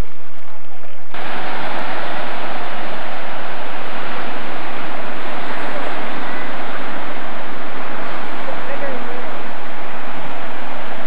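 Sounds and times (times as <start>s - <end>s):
surf breaking on rocky beach: 1.1s - 11.0s.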